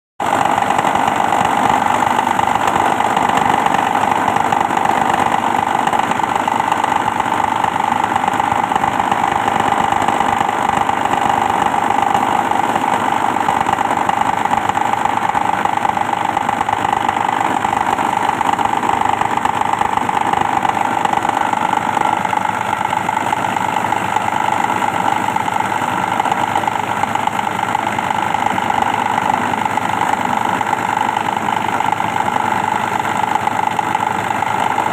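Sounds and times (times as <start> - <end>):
shredding machine droning: 0.2 - 34.9.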